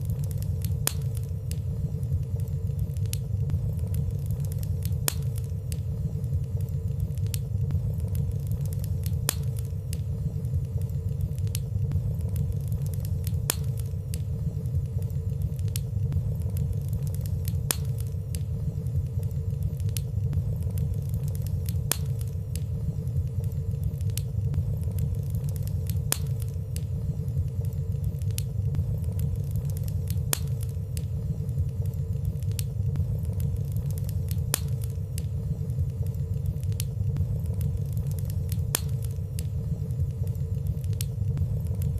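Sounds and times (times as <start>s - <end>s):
fire crackling: 0.0s - 41.9s
wood fire rumbling: 0.0s - 41.9s.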